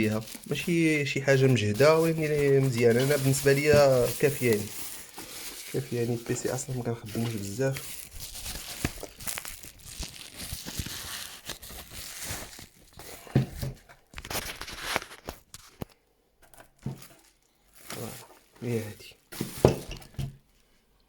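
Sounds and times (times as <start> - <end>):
packaging crinkling and rustling: 0.0 - 20.7.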